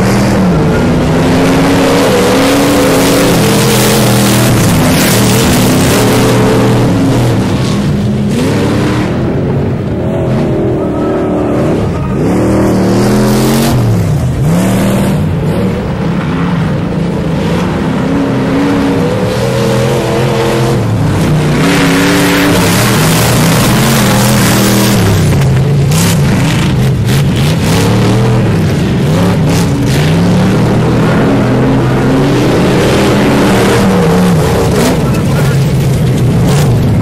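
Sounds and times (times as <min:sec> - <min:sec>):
truck engines revving: 0:00.0 - 0:37.0.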